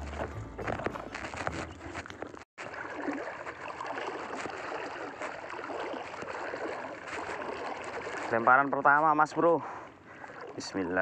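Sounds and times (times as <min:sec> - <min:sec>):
sea water sloshing and lapping: 0:00.0 - 0:11.0.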